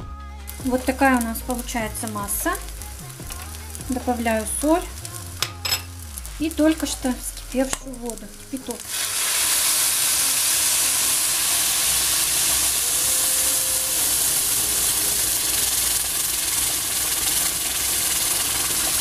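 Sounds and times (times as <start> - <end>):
hissing and sizzling oil: 0.5 - 19.0
water pouring into hot pan: 0.6 - 19.0.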